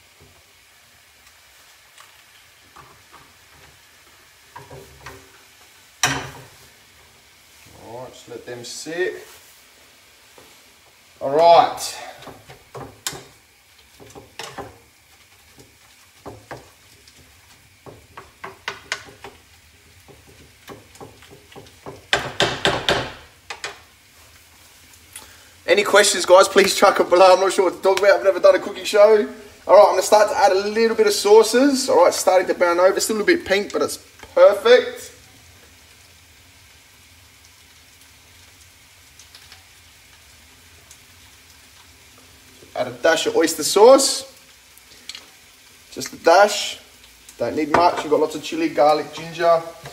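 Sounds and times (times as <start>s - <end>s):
meat sizzling in a pan: 0.0s - 49.9s.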